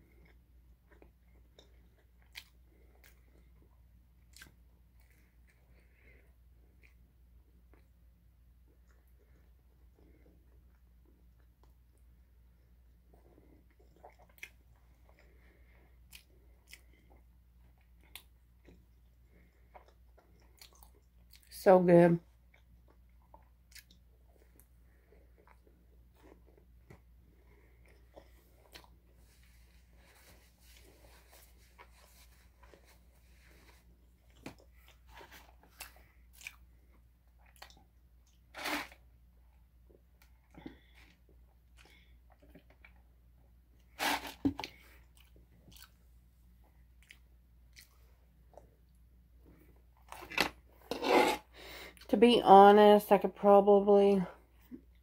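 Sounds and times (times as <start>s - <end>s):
soft chewing: 0.0s - 21.5s, 22.2s - 52.1s
low steady hum: 0.0s - 55.0s.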